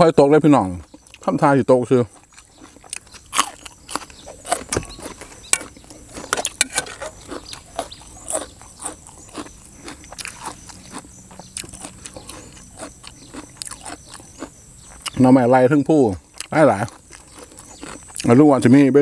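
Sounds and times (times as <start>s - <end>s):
crisp chewing crunches: 0.5s - 15.4s, 16.1s - 18.7s.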